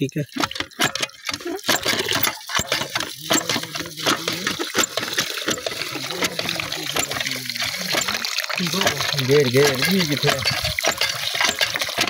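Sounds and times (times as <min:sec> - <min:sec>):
tap water pouring and splashing: 0:00.0 - 0:12.0.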